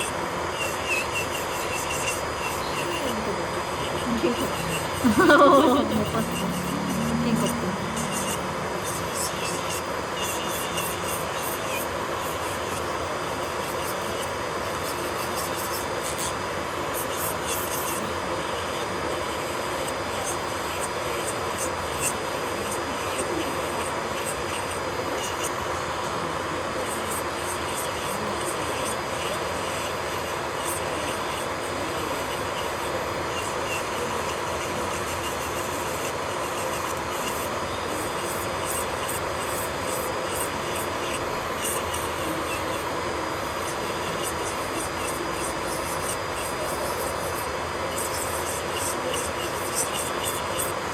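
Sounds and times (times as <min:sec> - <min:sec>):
drill bit grinding nail: 0:00.0 - 0:25.6, 0:26.8 - 0:50.9
electric nail drill whine: 0:00.0 - 0:50.9.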